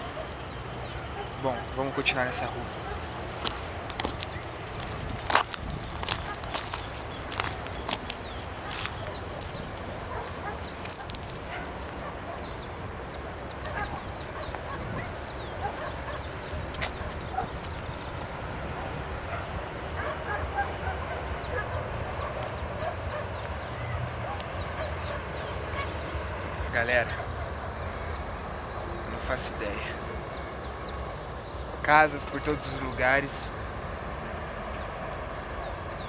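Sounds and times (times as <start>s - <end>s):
bird chirps and fowl calls: 0.0s - 36.0s.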